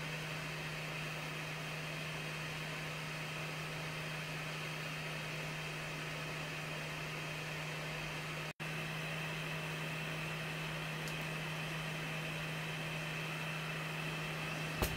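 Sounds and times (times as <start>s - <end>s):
laser rig machine hum: 0.0s - 14.9s.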